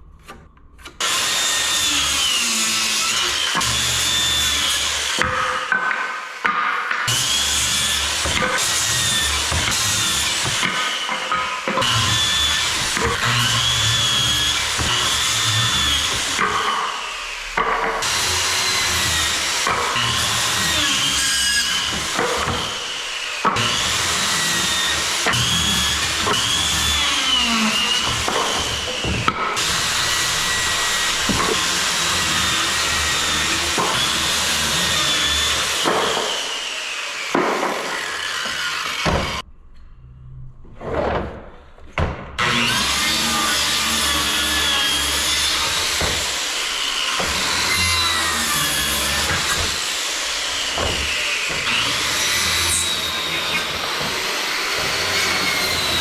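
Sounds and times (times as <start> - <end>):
power saw cutting wood: 0.8 - 39.4, 42.4 - 56.0.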